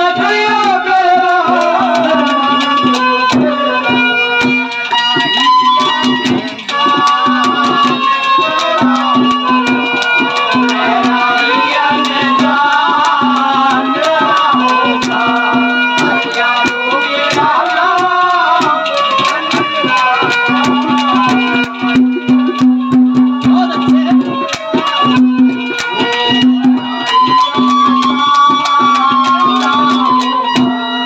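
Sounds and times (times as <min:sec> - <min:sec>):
fast hand drum strokes: 0:00.0 - 0:31.0
ornamented folk melody: 0:00.0 - 0:31.0
rattling percussion: 0:00.0 - 0:31.0.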